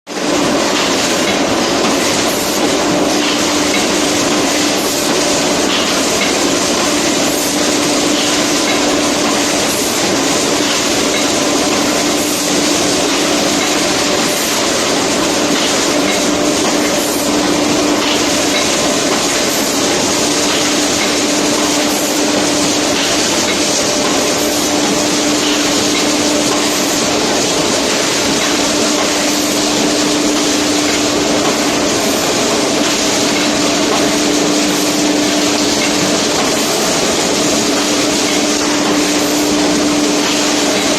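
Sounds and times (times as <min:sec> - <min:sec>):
machine hum and hiss: 0:00.1 - 0:40.9.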